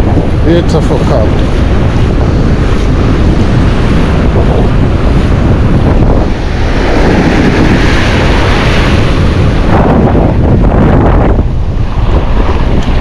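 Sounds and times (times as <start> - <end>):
shallow surf washing: 0.0 - 13.0
wind buffeting microphone: 0.0 - 13.0.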